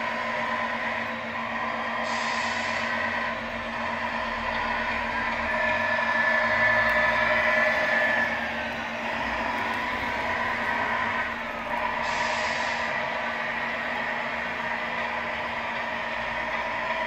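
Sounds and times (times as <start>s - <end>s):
simulated truck engine sound: 0.0s - 17.0s.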